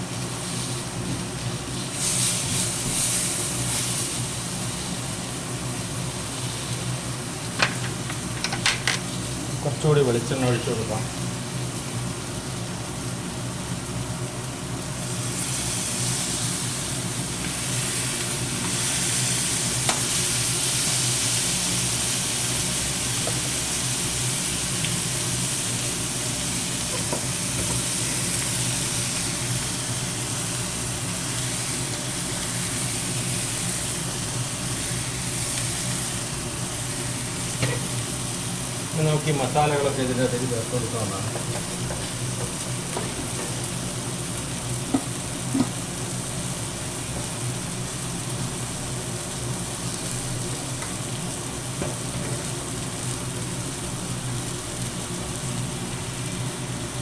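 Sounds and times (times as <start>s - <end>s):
prawns sizzling in a pan: 0.0s - 57.0s.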